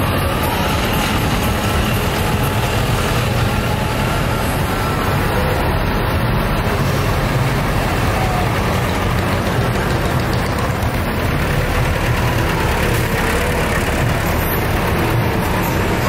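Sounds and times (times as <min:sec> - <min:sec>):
diesel tractors driving past: 0:00.0 - 0:16.0.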